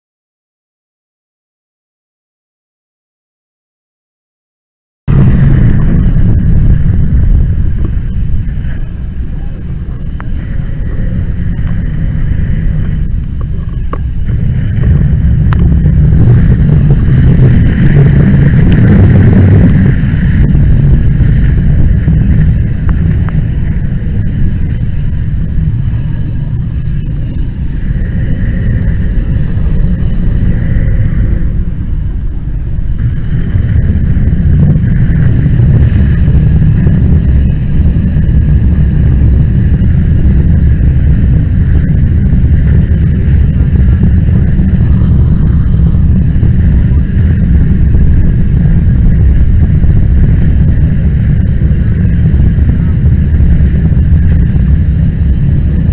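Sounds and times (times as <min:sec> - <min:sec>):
large fires rumbling: 0:05.1 - 0:55.9
hose streams spraying: 0:05.4 - 0:55.9.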